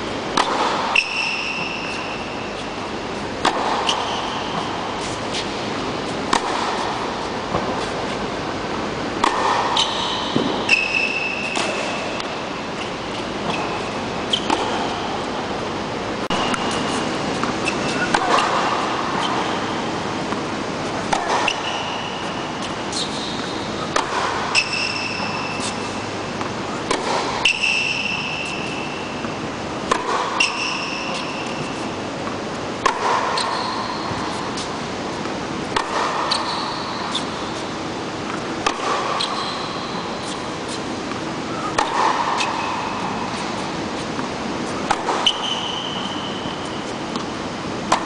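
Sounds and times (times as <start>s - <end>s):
steady background noise: 0.0s - 48.0s
racket hitting tennis balls: 0.1s - 48.0s.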